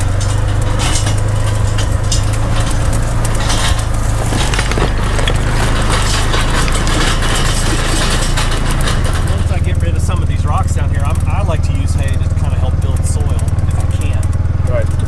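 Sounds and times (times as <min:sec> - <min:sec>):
tyres crunching over rocks: 0:00.0 - 0:15.0
vehicle engine running: 0:00.0 - 0:15.0.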